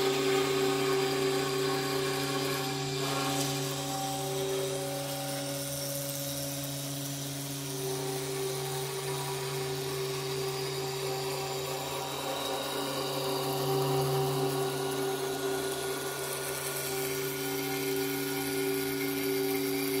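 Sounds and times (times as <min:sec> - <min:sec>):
cutter milling foam hiss: 0:00.0 - 0:20.0
machine spindle whining: 0:00.0 - 0:20.0.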